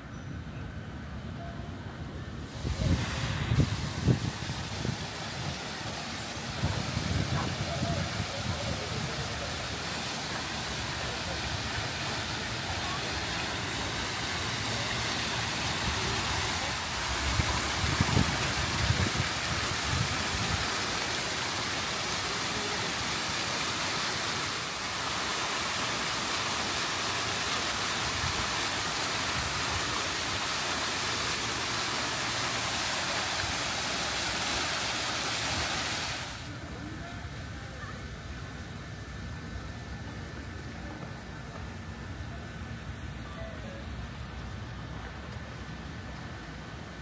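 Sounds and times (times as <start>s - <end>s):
fountain water splashing: 2.4s - 43.2s, 43.9s - 47.0s.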